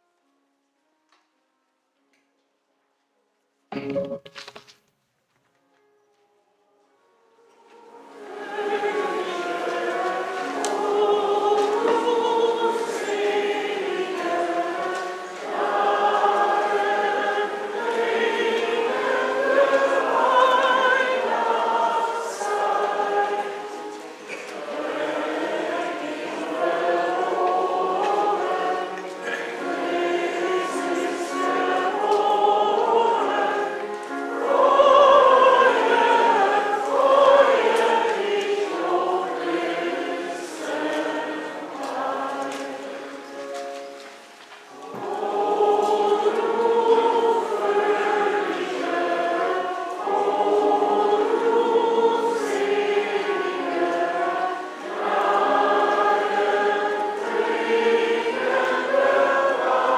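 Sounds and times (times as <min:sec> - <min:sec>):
choir singing a hymn: 0:07.4 - 0:59.9.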